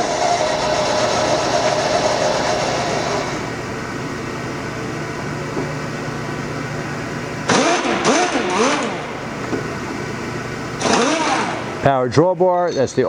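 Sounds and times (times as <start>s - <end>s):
milling machine humming with whine: 0.0s - 12.6s.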